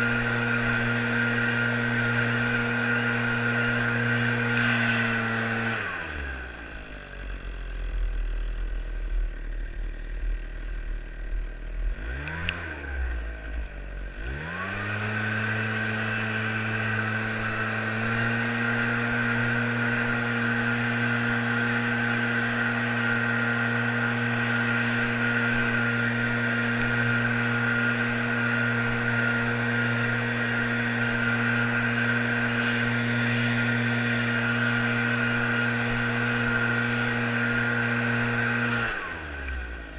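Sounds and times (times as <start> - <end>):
small petrol engine: 0.0 - 39.9.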